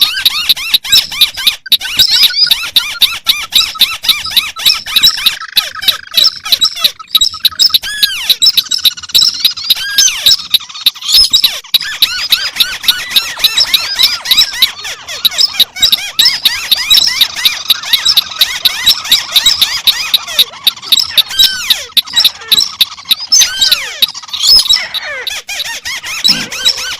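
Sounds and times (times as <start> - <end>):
crake calls: 0.0 - 26.9.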